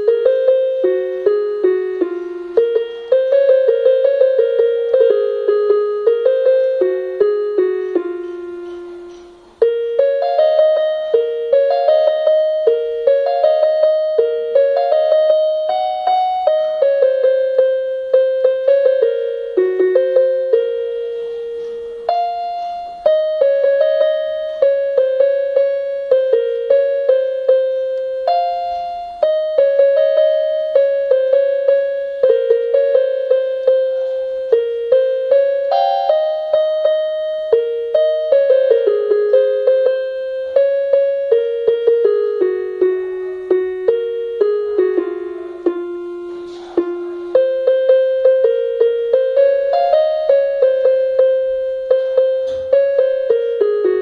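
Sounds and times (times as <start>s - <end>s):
slow piano melody on keyboard: 0.0s - 54.0s.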